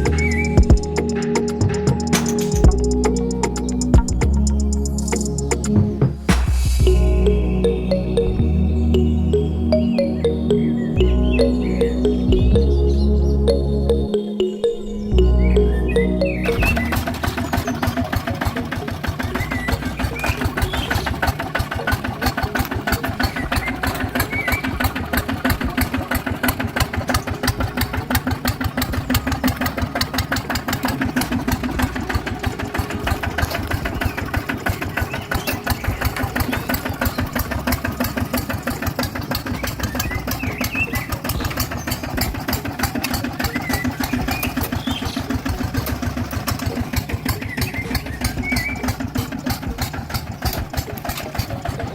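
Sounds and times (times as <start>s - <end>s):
small tractor engine chugging: 0.0s - 12.8s, 15.5s - 51.9s.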